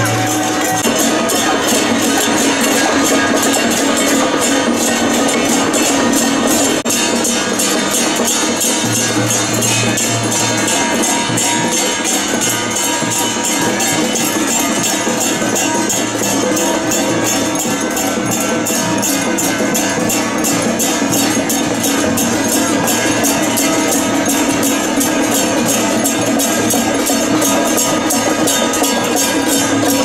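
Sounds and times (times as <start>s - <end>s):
cymbals clashing: 0.0s - 30.0s.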